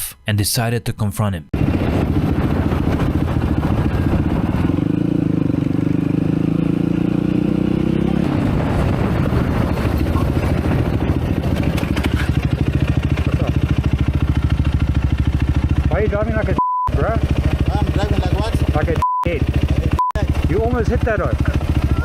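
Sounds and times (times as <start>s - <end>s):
motorcycle engine running: 1.6s - 22.0s.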